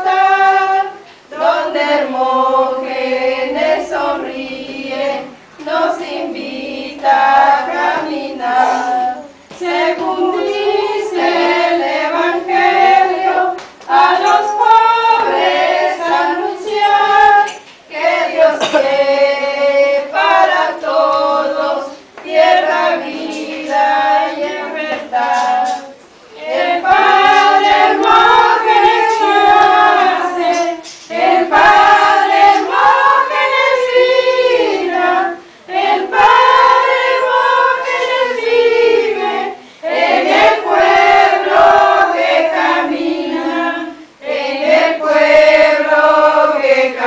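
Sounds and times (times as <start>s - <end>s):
women singing together: 0.0s - 47.0s.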